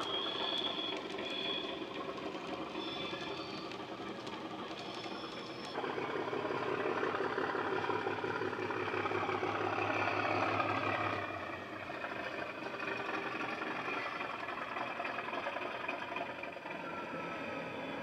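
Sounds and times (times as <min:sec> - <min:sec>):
model diesel engine sound: 0:00.0 - 0:18.0.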